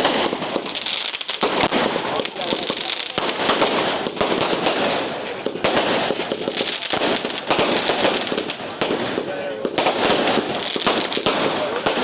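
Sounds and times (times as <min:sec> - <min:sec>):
firecrackers crackling: 0:00.0 - 0:12.0.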